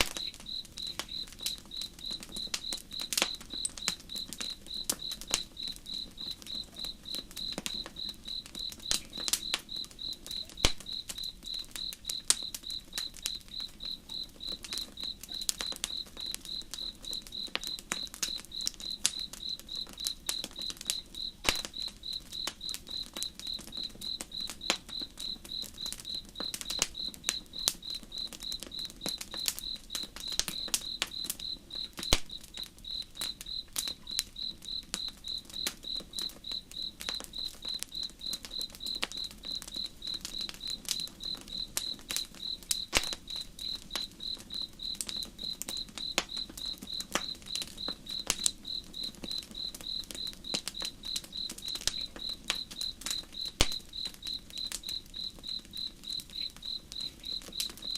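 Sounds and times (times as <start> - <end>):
campfire crackling: 0.0 - 57.9
cricket chirping: 0.0 - 57.9.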